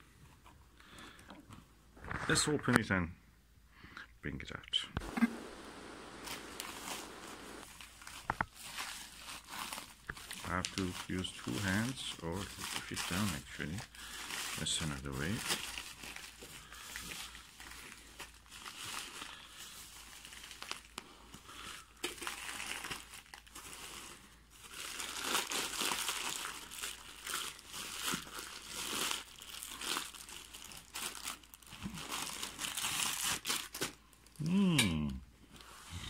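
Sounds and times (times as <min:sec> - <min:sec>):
bubble wrap crinkling: 0:05.0 - 0:35.9.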